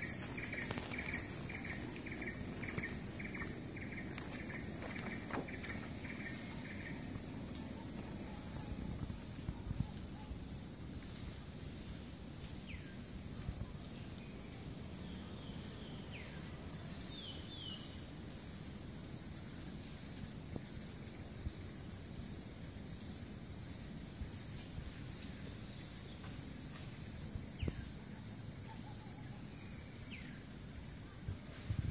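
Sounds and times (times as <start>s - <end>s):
high-pitched insect chorus: 0.0s - 31.9s.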